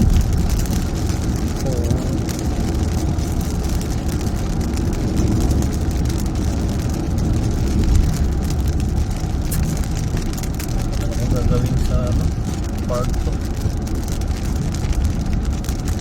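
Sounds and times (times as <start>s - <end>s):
raindrops pattering on car body: 0.0s - 16.0s
road and engine rumble: 0.0s - 16.0s.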